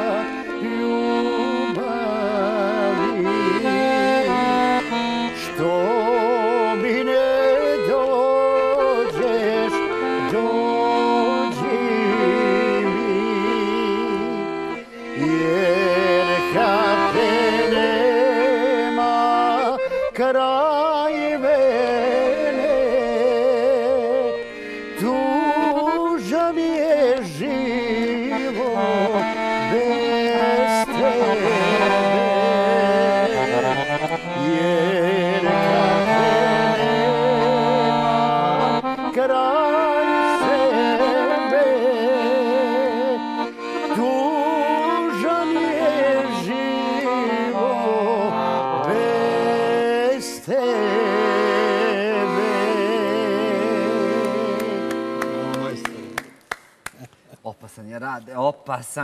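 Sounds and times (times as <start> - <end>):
man singing with vibrato: 0.0 - 56.2
accordion playing slow song: 0.0 - 56.5.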